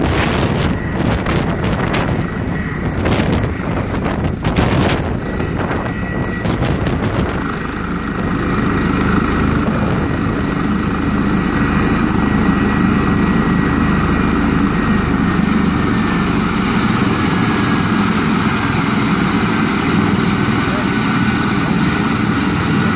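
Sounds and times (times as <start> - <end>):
helicopter rotor turning: 0.0 - 22.9
turbine engine whine: 0.0 - 22.9.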